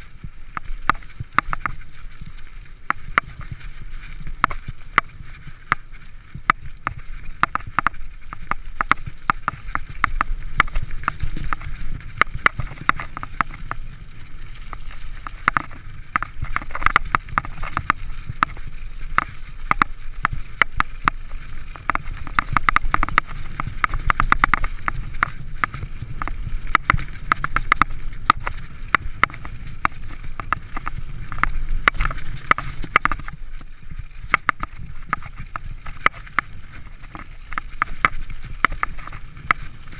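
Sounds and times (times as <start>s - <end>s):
bike rattling clicks and knocks: 0.0s - 39.9s
wind: 0.0s - 39.9s.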